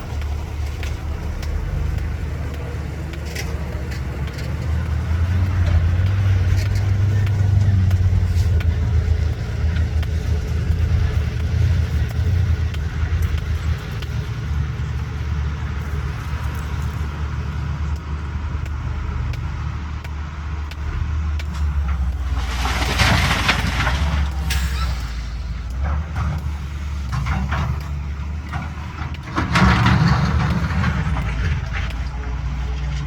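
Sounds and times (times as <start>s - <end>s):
excavator diesel engine drone: 0.0s - 33.0s.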